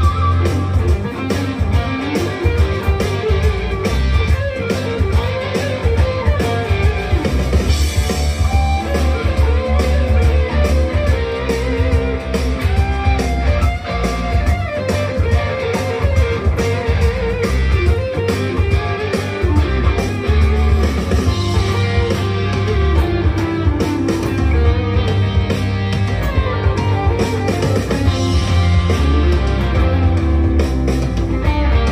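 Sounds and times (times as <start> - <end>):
blues-rock backing track: 0.0 - 31.9
electric guitar lead: 0.0 - 31.9.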